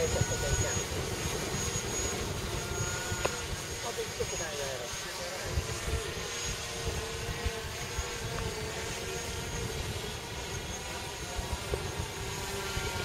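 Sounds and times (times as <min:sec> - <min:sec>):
drone propellers whining: 0:00.0 - 0:13.0
wind buffeting microphone: 0:00.0 - 0:13.0.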